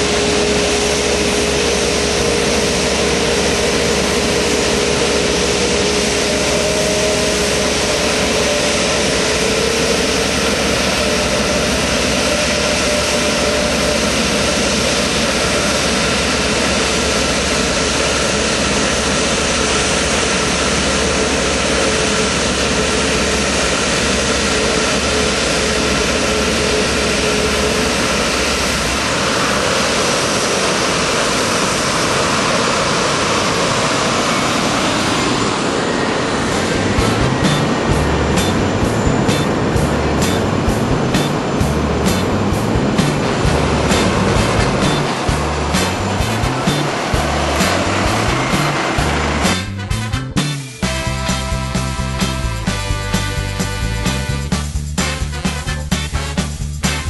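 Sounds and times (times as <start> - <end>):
jet engine whine: 0.0 - 57.0
jet engines at taxi power: 0.0 - 57.0.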